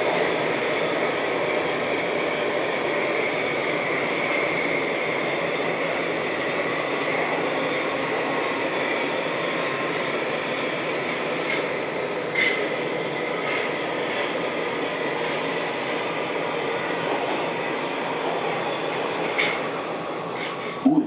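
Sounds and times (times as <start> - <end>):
train wheels rumbling on rail: 0.0 - 20.9.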